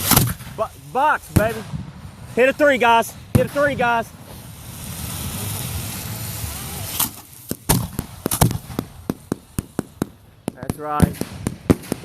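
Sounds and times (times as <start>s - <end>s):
firework bangs and crackles: 0.0s - 12.0s
firework rushing hiss: 0.0s - 12.0s.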